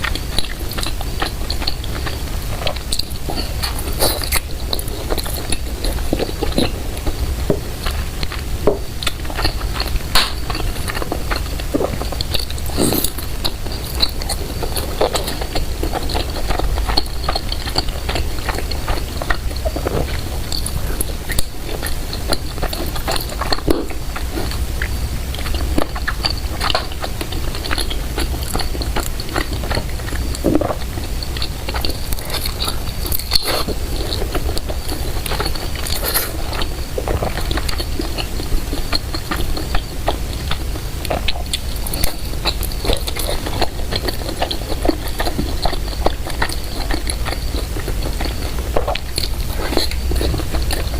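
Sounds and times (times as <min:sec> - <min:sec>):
mouth chewing and biting: 0:00.0 - 0:50.9.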